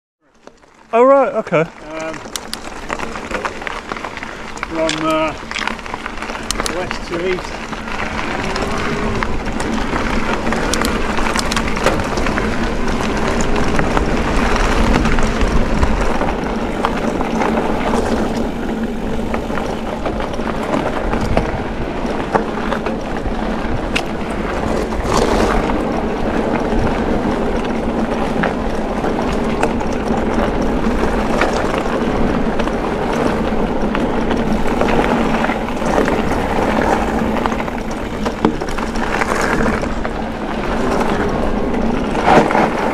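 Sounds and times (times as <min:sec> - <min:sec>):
bike tyres on gravel: 0:00.2 - 0:42.9
bike clicks and knocks: 0:01.8 - 0:42.9.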